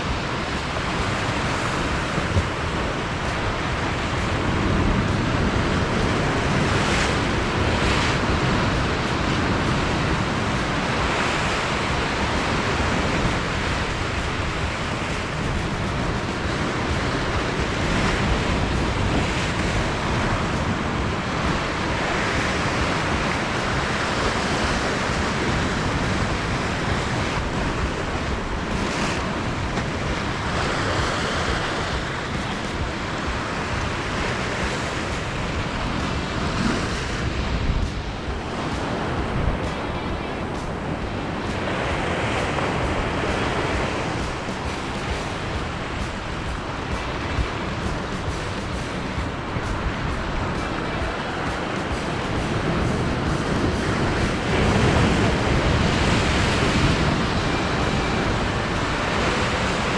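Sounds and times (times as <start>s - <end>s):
surf breaking on rocky shore: 0.0s - 59.9s
wind rumbling on microphone: 0.0s - 59.9s.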